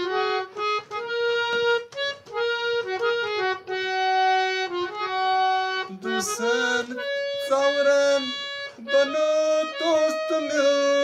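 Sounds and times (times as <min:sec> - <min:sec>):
harmonium melody: 0:00.0 - 0:11.0.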